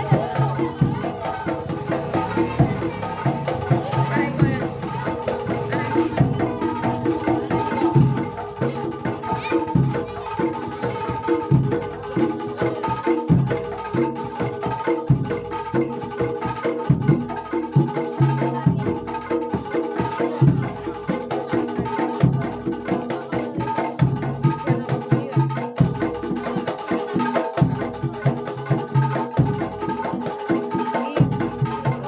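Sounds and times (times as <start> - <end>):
drums and struck percussion: 0.0 - 32.0.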